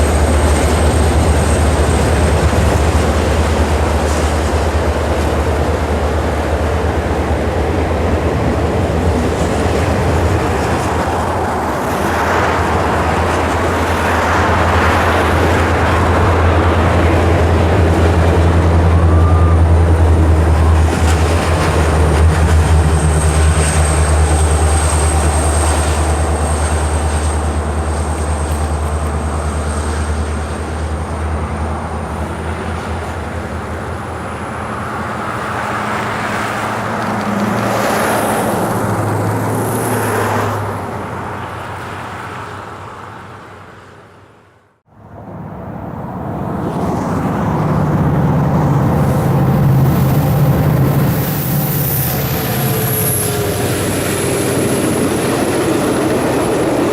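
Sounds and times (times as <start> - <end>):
locomotive engine drone: 0.0 - 56.9.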